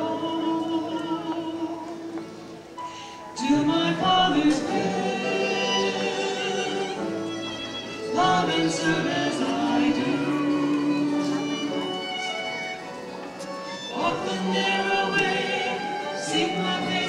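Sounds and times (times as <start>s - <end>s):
church singing with instruments: 0.0s - 17.0s.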